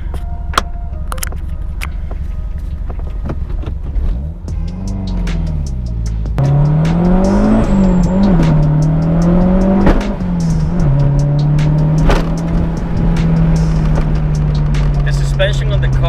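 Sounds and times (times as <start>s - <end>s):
car engine accelerating: 1.2s - 16.0s.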